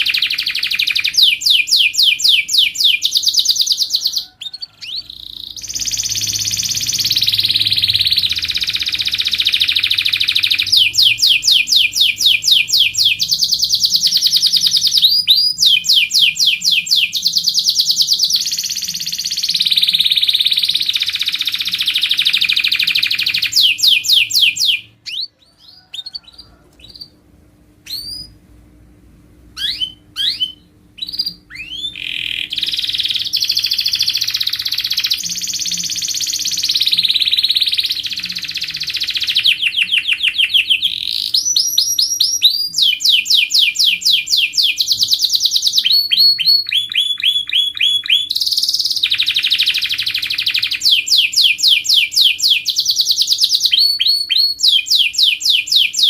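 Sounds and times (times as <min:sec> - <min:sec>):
canary singing trills: 0:00.0 - 0:27.2, 0:27.8 - 0:28.4, 0:29.6 - 0:56.0.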